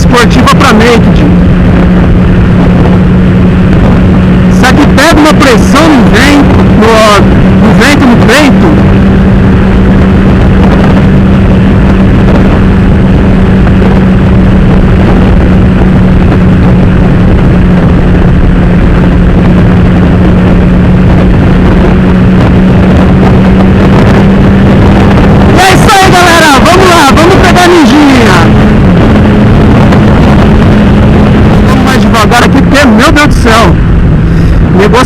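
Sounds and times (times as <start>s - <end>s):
motorcycle engine at steady revs: 0.0s - 35.0s
wind rushing on microphone: 0.0s - 35.0s.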